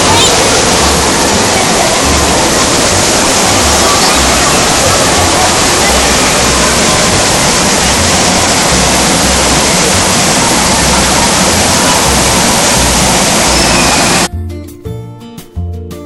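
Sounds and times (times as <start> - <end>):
water rushing: 0.0 - 14.3.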